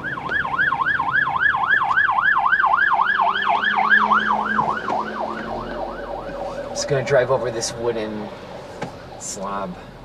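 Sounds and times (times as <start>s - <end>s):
emergency siren yelping: 0.0s - 9.3s.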